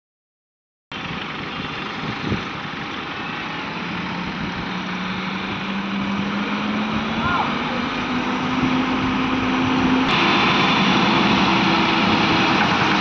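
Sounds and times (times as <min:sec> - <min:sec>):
diesel engine running: 0:00.9 - 0:13.0.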